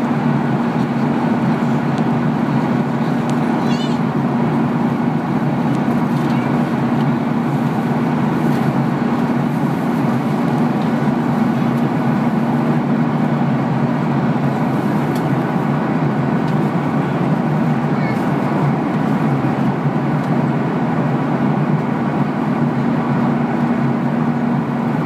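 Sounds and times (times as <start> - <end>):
jet engine and airflow rush: 0.0 - 25.0.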